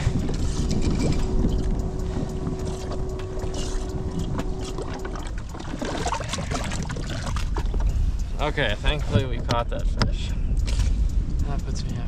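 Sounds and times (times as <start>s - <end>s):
thin steady hum: 0.0s - 12.0s
wind buffeting microphone: 0.0s - 12.0s.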